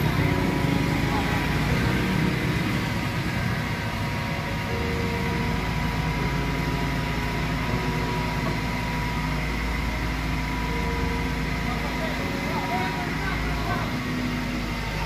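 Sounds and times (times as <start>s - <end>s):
crane engine running: 0.0s - 15.0s
thin steady whine: 0.0s - 15.0s.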